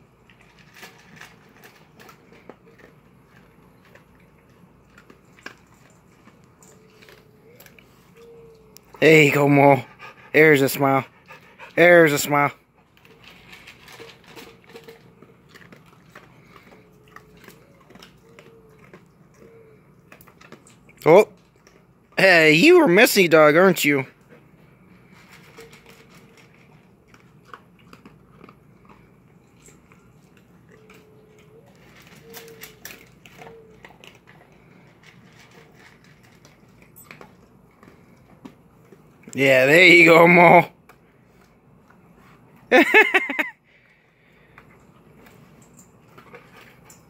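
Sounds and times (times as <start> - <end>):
dogs chewing dry kibble: 0.0 - 47.0.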